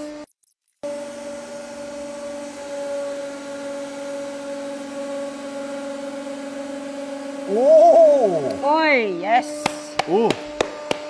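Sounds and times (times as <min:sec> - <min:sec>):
hydraulic press humming: 0:00.8 - 0:11.0.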